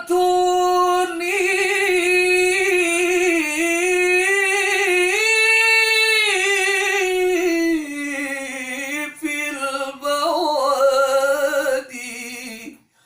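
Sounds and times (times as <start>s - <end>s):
man singing melismatic line: 0.0s - 12.7s.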